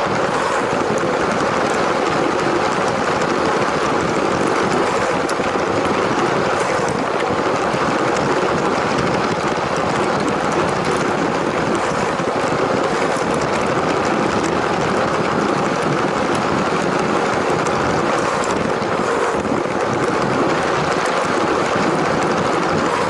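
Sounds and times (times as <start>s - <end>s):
toy train motor whirring rattle: 0.0s - 23.0s.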